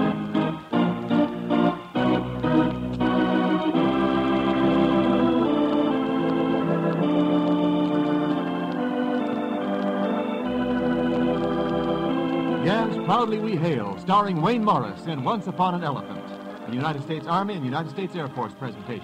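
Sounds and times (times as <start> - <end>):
organ playing slow chords: 0.0 - 19.0.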